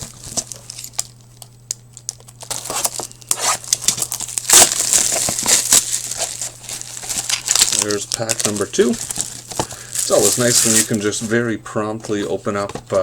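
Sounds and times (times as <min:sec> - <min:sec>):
wrapper tearing and crinkling: 0:00.0 - 0:01.3, 0:01.9 - 0:11.3.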